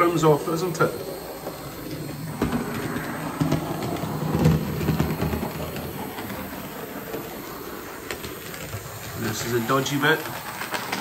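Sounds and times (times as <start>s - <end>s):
model train motor hum: 0.0s - 11.0s
wheels clicking over rails: 0.0s - 11.0s.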